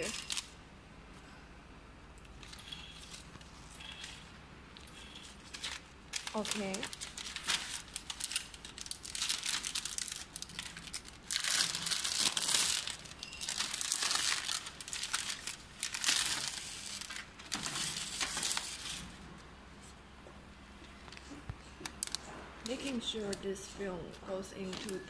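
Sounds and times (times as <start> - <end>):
plastic film crinkling: 0.0 - 0.5, 2.4 - 19.2, 21.0 - 25.0.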